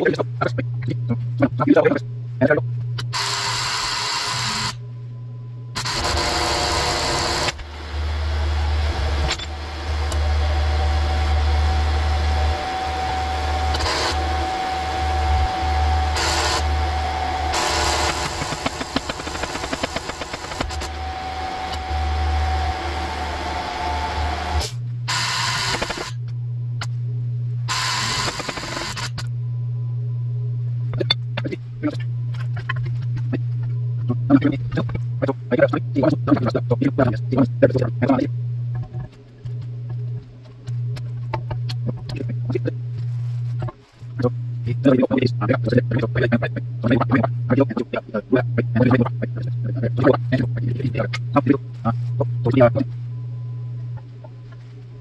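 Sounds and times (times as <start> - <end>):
powered press humming and whining: 0.0 - 55.0.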